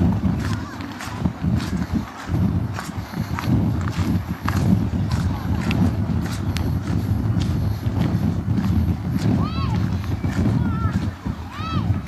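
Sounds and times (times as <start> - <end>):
footsteps clicking: 0.0 - 11.3.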